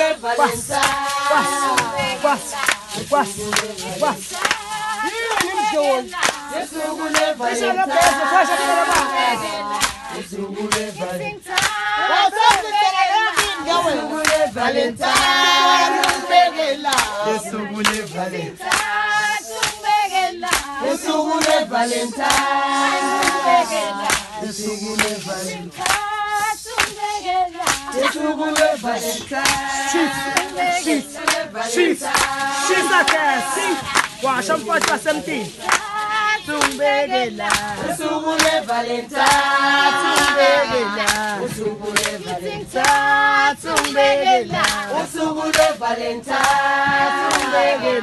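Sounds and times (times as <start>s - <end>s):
choir singing: 0.0s - 48.0s
hand-claps: 0.0s - 48.0s.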